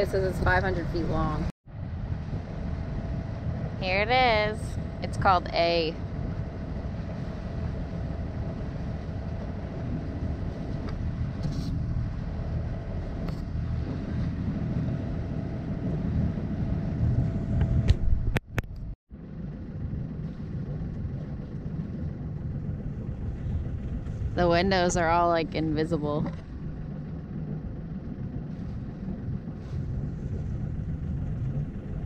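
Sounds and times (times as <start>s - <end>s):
boat engine rumbling: 0.0s - 32.0s.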